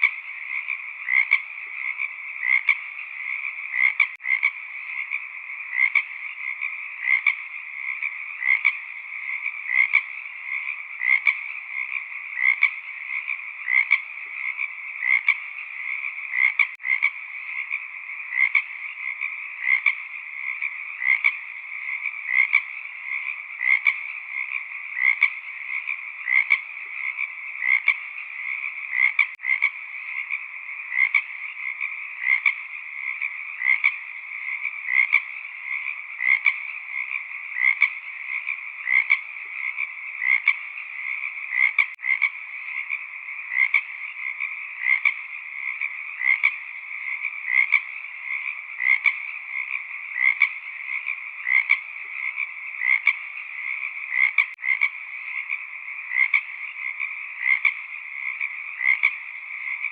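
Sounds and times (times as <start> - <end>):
frogs chorus: 0.0 - 59.9
loud frog croak: 0.0 - 59.9.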